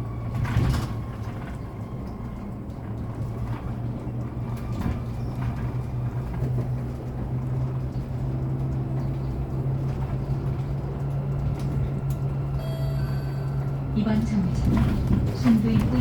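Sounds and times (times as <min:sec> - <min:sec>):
electric bus hum: 0:00.0 - 0:16.0
road noise: 0:00.0 - 0:16.0.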